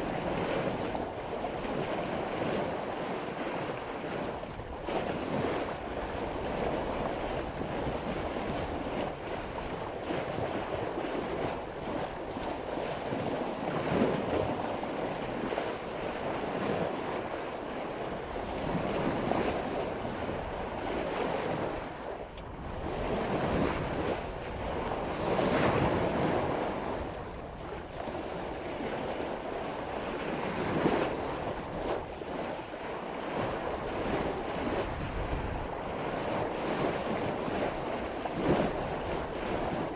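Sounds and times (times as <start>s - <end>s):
water rushing along a hull: 0.0s - 39.9s
wind buffeting microphone: 0.0s - 39.9s.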